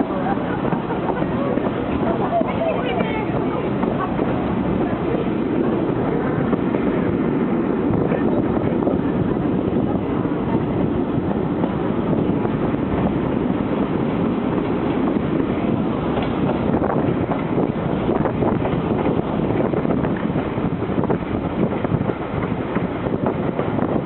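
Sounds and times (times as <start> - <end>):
train running noise on board: 0.0 - 24.0
wind buffeting microphone: 0.0 - 24.0.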